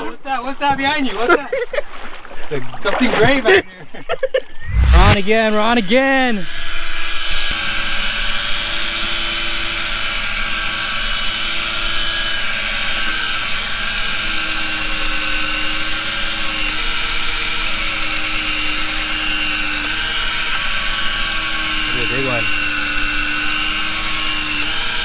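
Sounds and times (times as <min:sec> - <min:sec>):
electric reel motor whining: 0:04.6 - 0:25.0.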